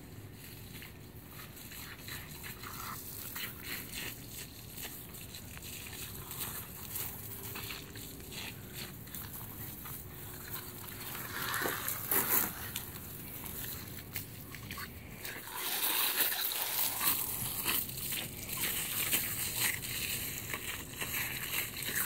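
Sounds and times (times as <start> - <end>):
hose spraying water onto grass: 0.0 - 22.0
dog chewing and rustling: 0.1 - 22.0.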